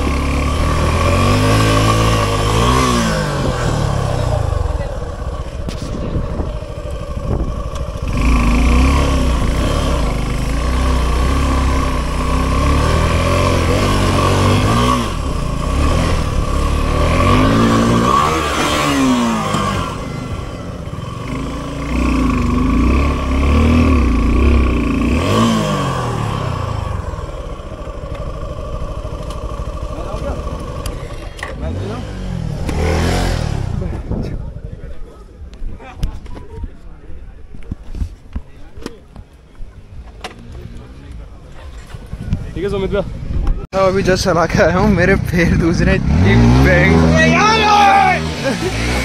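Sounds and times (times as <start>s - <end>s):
motorcycle engines revving: 0.0s - 36.2s, 38.4s - 49.0s.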